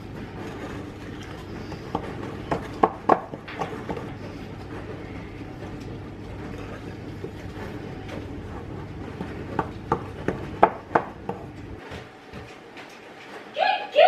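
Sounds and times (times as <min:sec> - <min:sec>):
wooden spoon stirring dough: 0:00.0 - 0:12.4
low background hum: 0:00.0 - 0:14.0.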